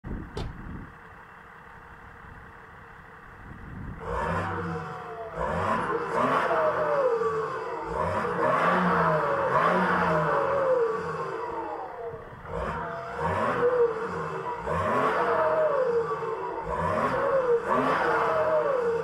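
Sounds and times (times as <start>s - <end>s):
diesel engine revving: 0.0s - 19.0s.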